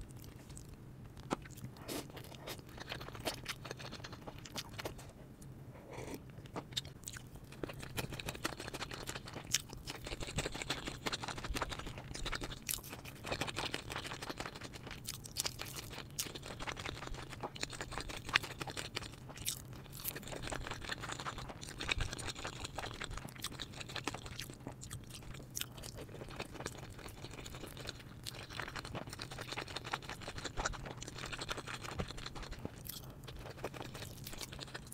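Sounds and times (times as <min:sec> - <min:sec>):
chewing and crunching food: 0:00.0 - 0:34.9.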